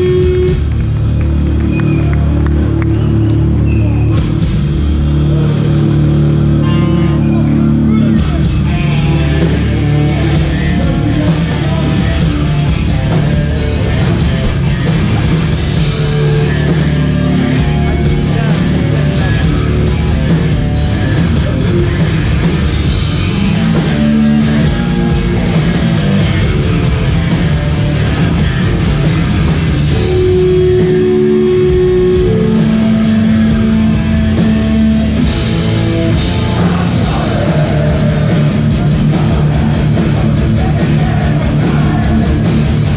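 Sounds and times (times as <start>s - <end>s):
hardcore band playing live: 0.0s - 42.9s.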